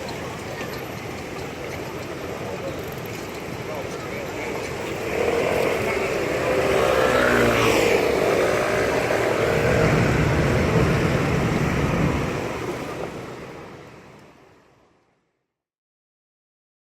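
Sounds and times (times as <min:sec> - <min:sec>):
passing vehicles: 0:00.0 - 0:15.0.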